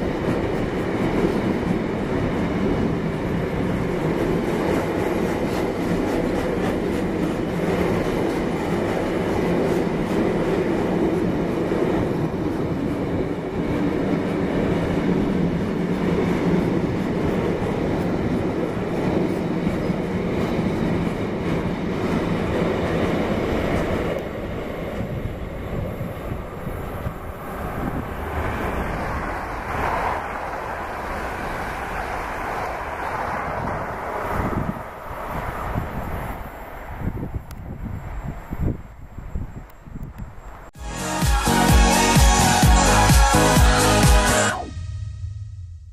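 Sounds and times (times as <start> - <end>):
train wheels rushing on rails: 0.0 - 38.8.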